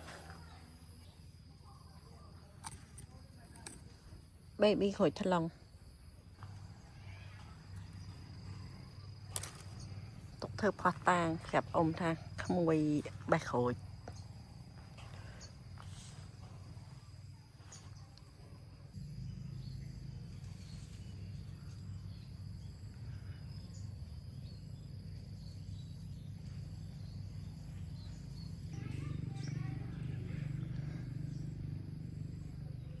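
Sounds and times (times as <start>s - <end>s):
high-pitched insect drone: 6.3s - 33.0s.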